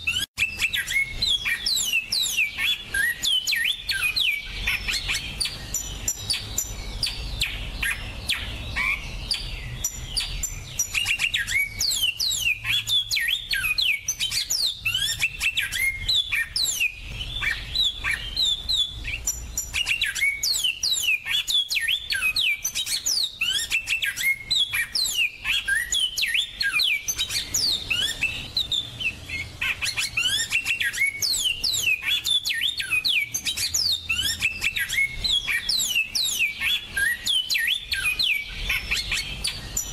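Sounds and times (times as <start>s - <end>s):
finches singing: 0.0s - 39.9s.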